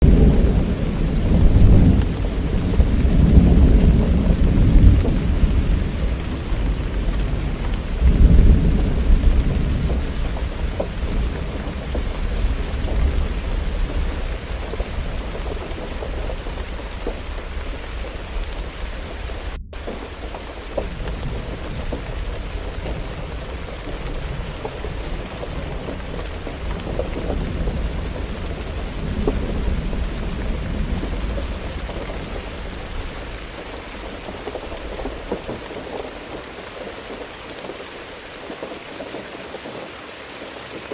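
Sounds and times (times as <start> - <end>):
rolling thunder: 0.0 - 37.9
steady rain: 0.0 - 40.9.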